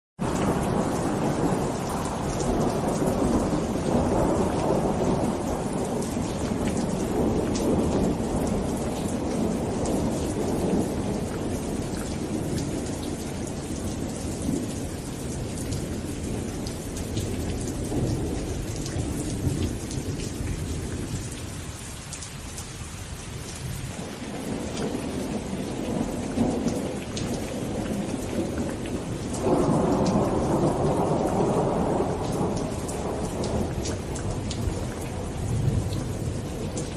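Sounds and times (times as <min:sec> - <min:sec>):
low rumbling thunder: 0:00.2 - 0:21.8, 0:23.5 - 0:36.9
rain falling: 0:00.2 - 0:36.9.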